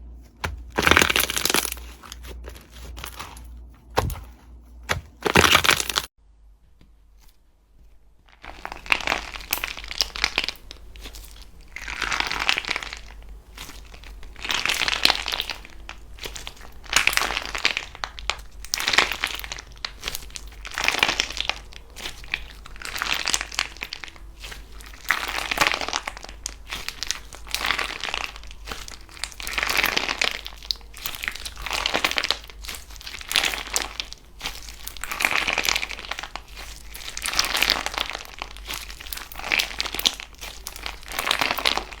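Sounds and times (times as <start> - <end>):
slime squeezed with crackling pops: 8.4 - 42.0.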